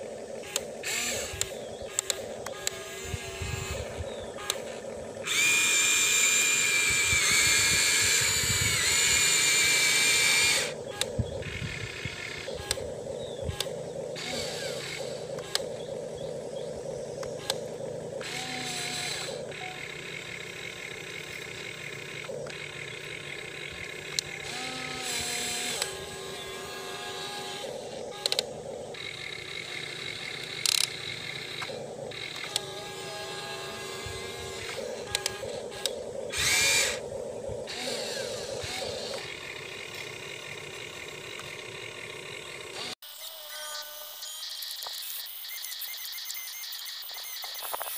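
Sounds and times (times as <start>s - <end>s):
electric motor whine: 0.0s - 47.9s.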